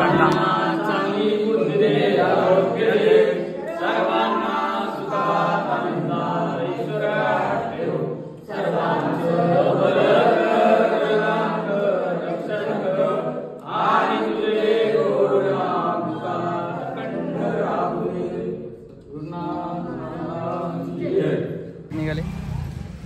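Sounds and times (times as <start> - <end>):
group chanting prayer in unison: 0.0 - 23.0.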